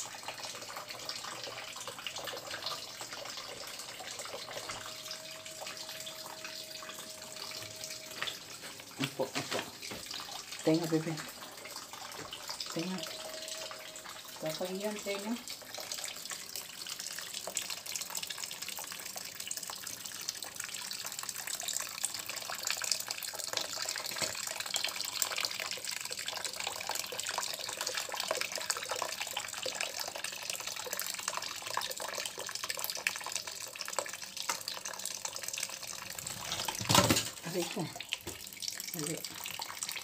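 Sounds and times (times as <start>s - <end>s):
tap running into basin of water: 0.2s - 40.0s.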